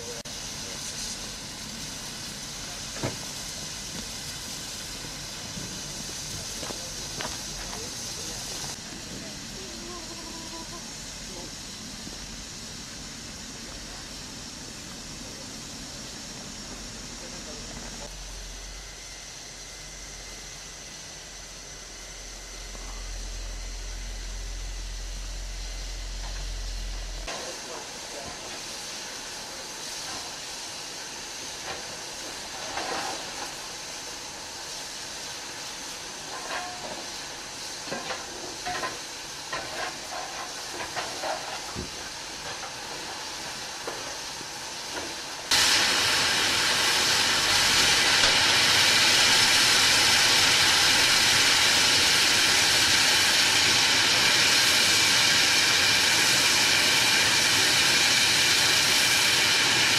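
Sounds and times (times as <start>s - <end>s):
steam hiss: 0.0s - 59.9s.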